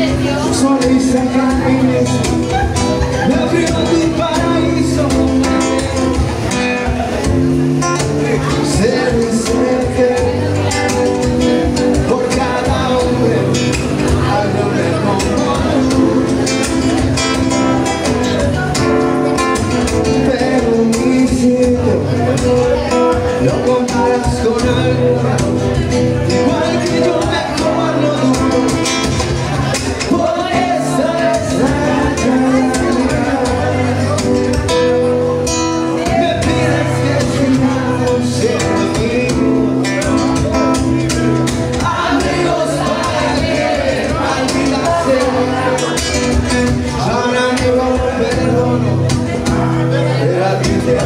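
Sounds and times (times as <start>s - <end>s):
acoustic guitar playing: 0.0s - 51.0s
man singing: 0.0s - 51.0s.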